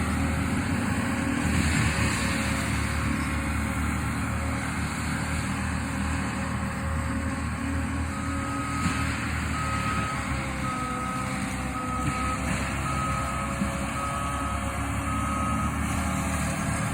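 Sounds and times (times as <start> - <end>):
heavy machine engine rumble: 0.0 - 16.9.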